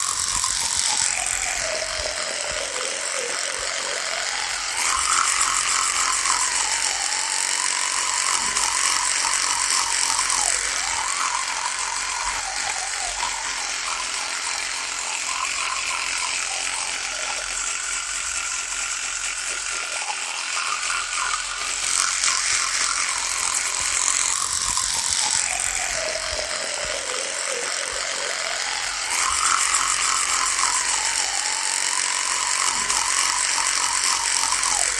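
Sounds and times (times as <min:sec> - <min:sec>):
electric toothbrush buzzing: 0:00.0 - 0:34.9.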